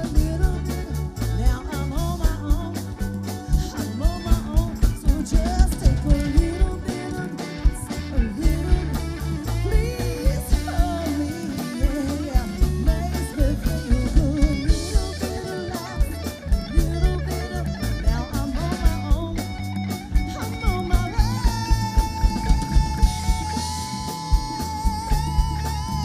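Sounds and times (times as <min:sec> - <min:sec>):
lead guitar: 0:00.0 - 0:26.0
live rock band playing: 0:00.0 - 0:26.0.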